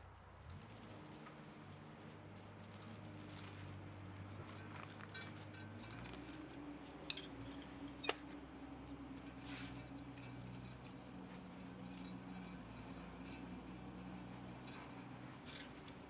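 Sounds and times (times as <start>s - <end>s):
metal scraping: 0.4s - 16.0s.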